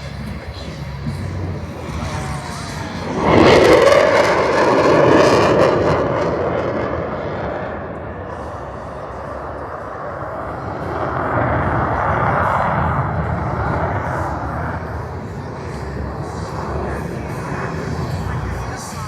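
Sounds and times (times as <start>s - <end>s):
aircraft flying low past: 0.0s - 19.0s.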